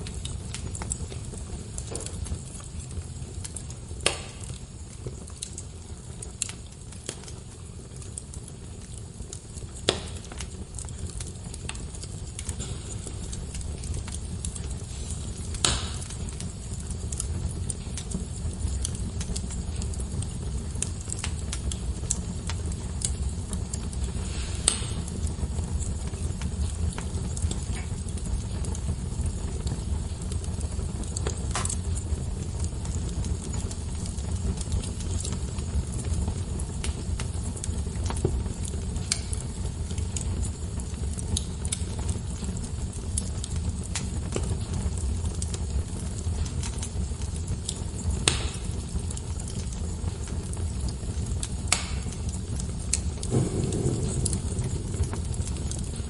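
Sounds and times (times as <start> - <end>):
fire burning with low rumble: 0.0 - 56.0
wood fire crackles and pops: 0.0 - 56.0.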